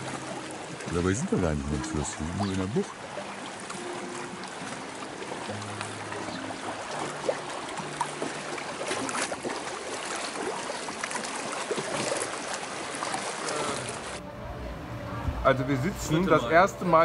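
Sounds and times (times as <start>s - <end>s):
small splashes and gurgles: 0.0s - 14.2s
water rushing past a hull: 0.0s - 17.0s.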